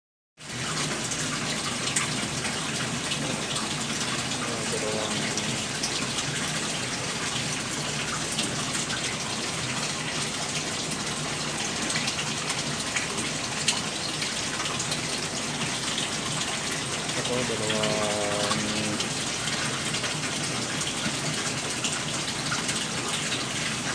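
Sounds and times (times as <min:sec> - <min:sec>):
water running into tank: 0:00.4 - 0:23.9.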